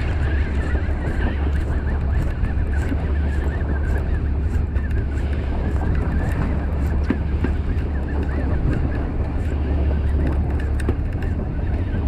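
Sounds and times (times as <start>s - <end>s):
boat noise: 0.0s - 12.0s
wind rumble: 0.0s - 12.0s.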